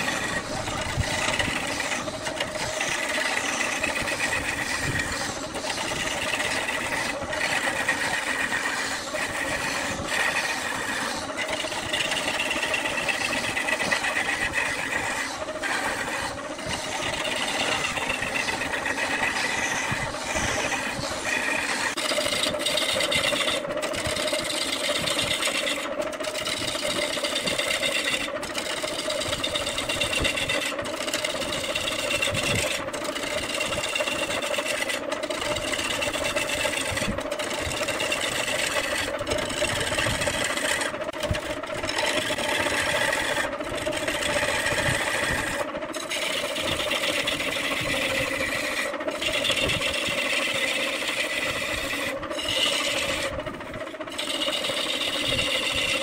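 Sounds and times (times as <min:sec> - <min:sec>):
lathe tool scraping wood: 0:00.0 - 0:56.0
wood lathe hum: 0:00.0 - 0:56.0.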